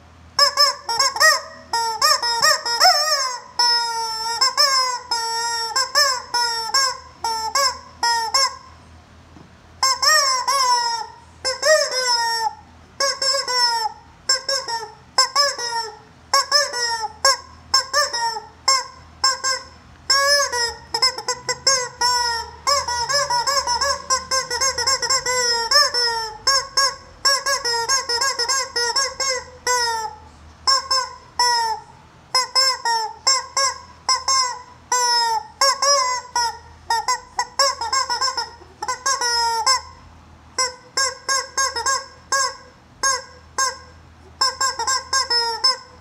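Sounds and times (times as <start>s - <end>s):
rubber chicken toy squawking: 0.4s - 8.8s, 9.8s - 46.0s.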